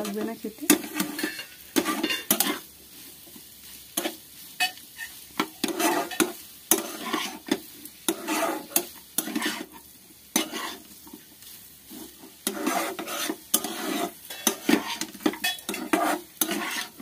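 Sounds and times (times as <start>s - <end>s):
light sizzle: 0.0s - 17.0s
spatula scraping a frying pan: 0.0s - 17.0s.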